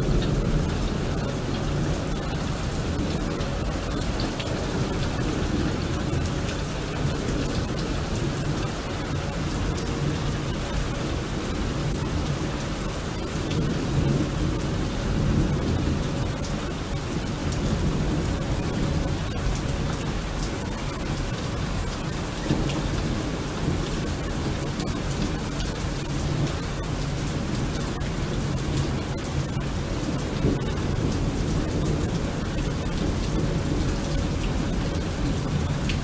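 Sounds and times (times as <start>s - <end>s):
heavy rain: 0.0s - 36.0s
low rumble of thunder: 0.0s - 36.0s.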